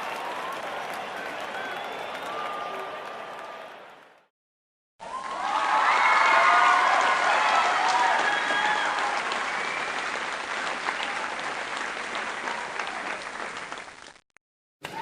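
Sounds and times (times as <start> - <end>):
crowd applauding: 0.0 - 4.3, 5.0 - 14.2.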